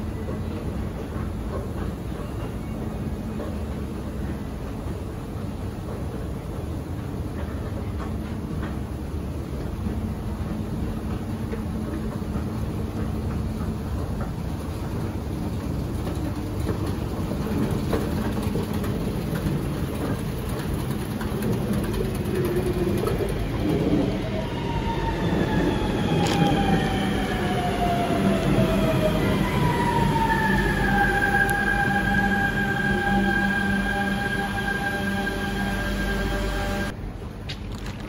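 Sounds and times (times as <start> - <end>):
train electric drive whine: 0.0 - 37.0
train rumble: 0.0 - 38.0.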